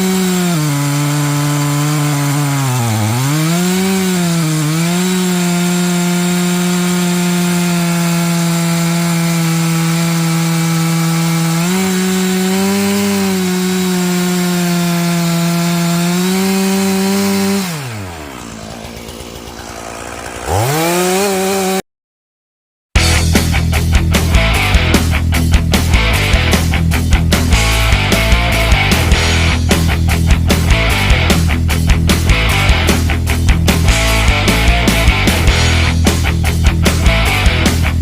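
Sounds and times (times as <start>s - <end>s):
chainsaw cutting log: 0.0s - 21.8s, 23.0s - 38.0s.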